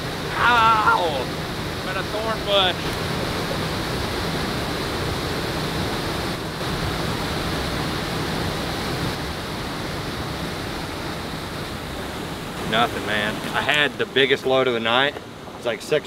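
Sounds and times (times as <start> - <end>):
fast-flowing water rushing: 0.0 - 16.0.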